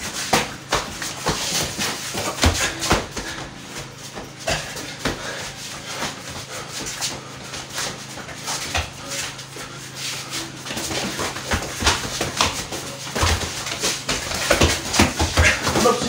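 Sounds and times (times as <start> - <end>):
feet scuffing on floor: 0.0 - 16.0.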